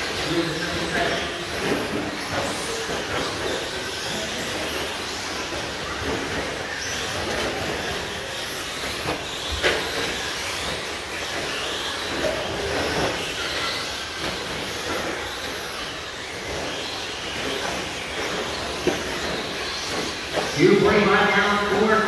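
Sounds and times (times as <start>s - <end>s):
rc trucks motors whirring: 0.0s - 20.7s.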